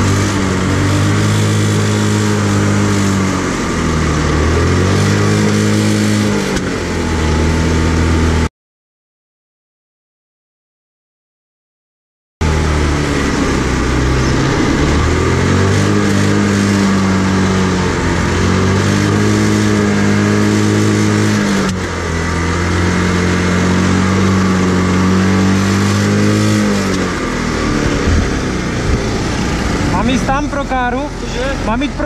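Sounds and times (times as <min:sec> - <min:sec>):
kart engine running: 0:00.0 - 0:08.5, 0:12.4 - 0:32.0.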